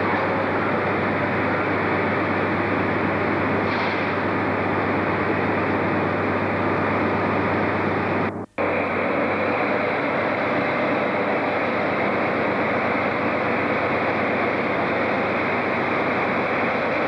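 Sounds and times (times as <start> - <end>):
trains rumbling: 0.0 - 17.0.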